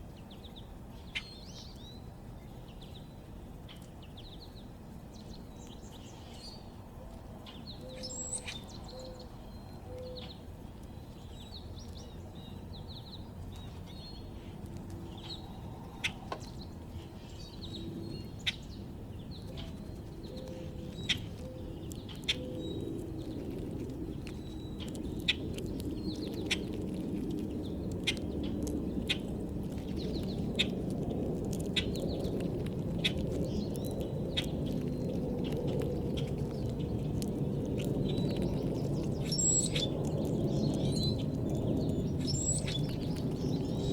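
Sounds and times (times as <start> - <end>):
low outdoor rumble: 0.0 - 43.9
songbirds chirping: 0.0 - 43.9.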